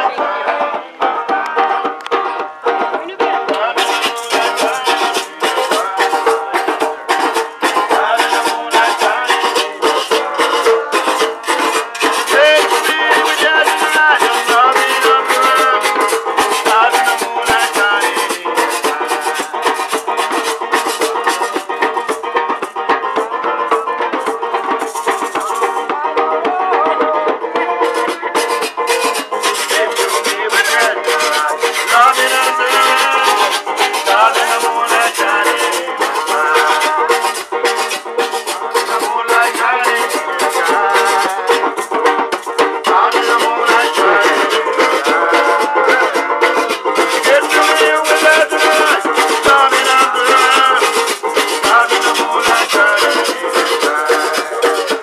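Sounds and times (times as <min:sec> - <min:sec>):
man singing: 0:00.0 - 0:20.0, 0:25.1 - 0:42.0, 0:42.8 - 0:55.0
banjo strumming: 0:00.0 - 0:55.0
hand drum: 0:00.0 - 0:55.0
maracas shaking: 0:00.0 - 0:55.0
metal grater scraped with stick: 0:03.5 - 0:22.7, 0:27.8 - 0:55.0.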